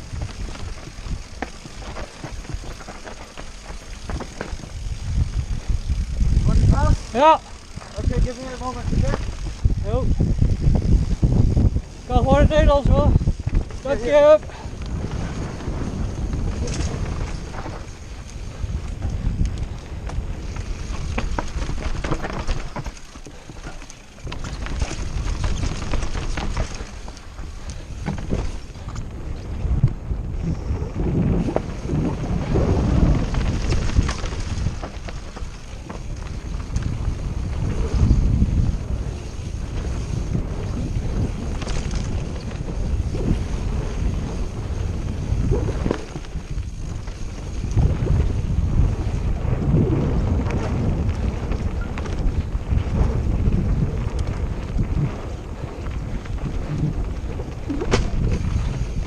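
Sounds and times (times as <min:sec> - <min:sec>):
mountain bike rattling: 0:00.0 - 0:59.0
wind on microphone: 0:00.0 - 0:59.0.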